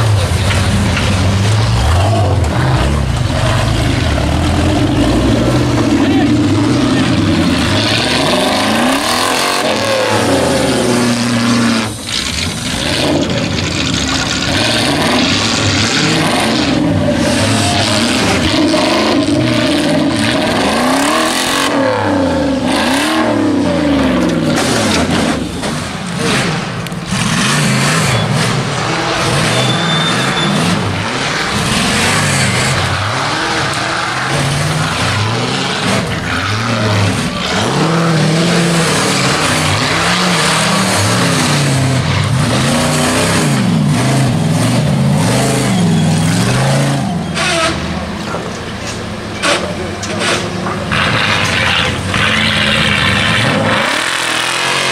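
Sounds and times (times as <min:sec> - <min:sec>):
buggy engines revving hard: 0:00.0 - 0:54.9.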